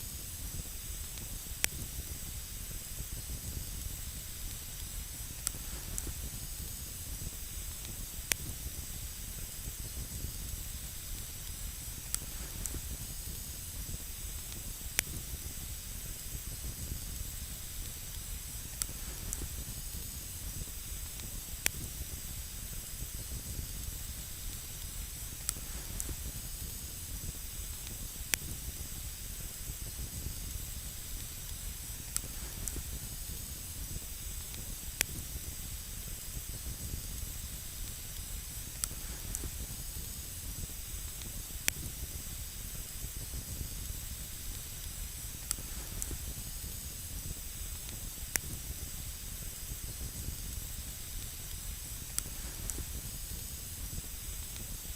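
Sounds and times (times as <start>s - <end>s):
campfire crackling and hissing: 0.0s - 54.9s.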